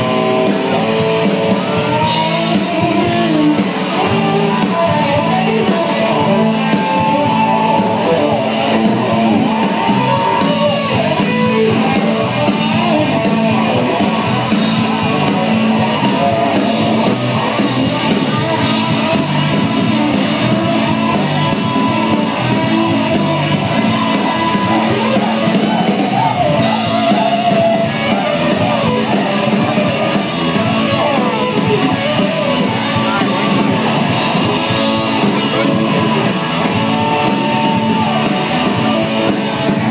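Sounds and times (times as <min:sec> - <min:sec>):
live rock band: 0:00.0 - 0:39.9
person singing: 0:00.0 - 0:39.9.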